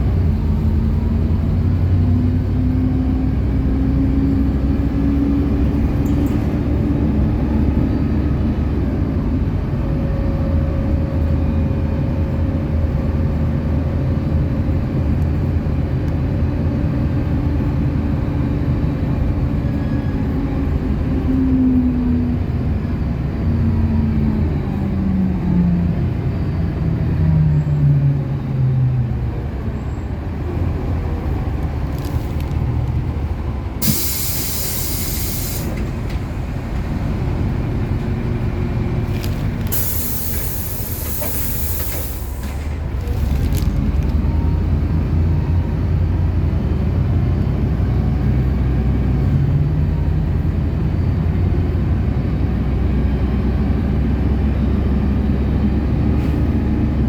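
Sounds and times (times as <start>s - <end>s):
bus engine: 0.0s - 57.0s
road rumble: 0.0s - 57.0s.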